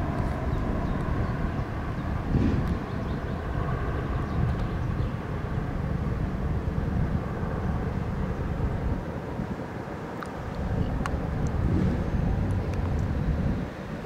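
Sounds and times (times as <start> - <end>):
airship propeller engines droning: 0.0 - 14.0.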